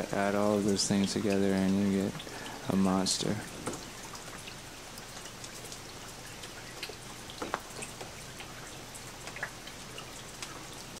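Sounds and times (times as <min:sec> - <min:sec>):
water drops pattering: 0:00.0 - 0:11.0.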